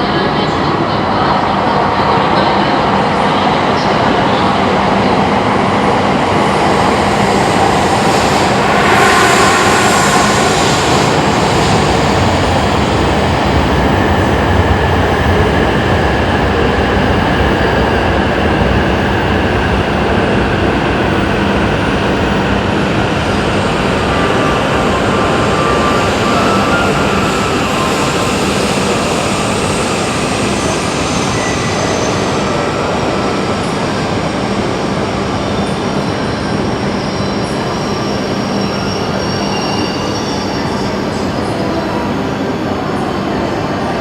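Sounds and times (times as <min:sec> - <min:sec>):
train rushing past: 0:00.0 - 0:44.0.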